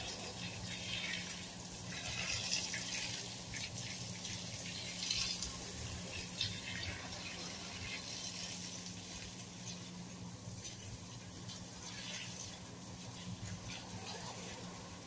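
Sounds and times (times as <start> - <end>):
hose water splattering on plants: 0.0 - 15.0.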